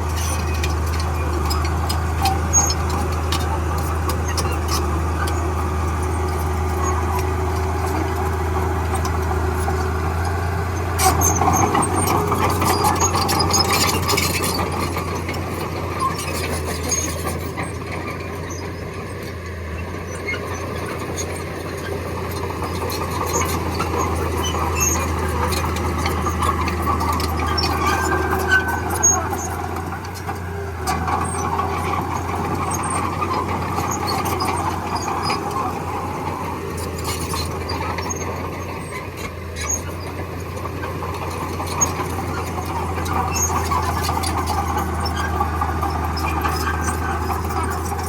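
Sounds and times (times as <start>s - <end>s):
bulldozer engine drone: 0.0s - 48.0s
metallic clanks and squeaks: 0.0s - 48.0s.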